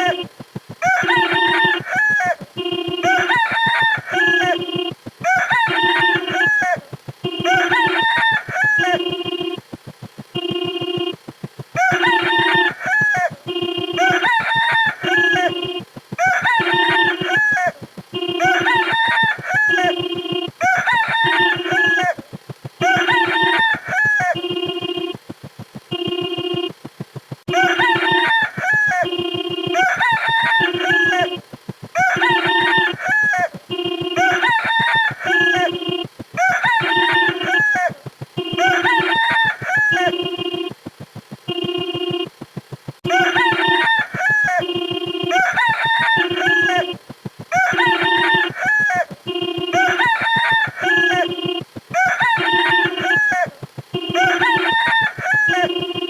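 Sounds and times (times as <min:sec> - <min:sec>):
rooster crowing: 0:00.8 - 0:09.6, 0:11.7 - 0:25.2, 0:27.5 - 0:40.8, 0:43.0 - 0:56.0.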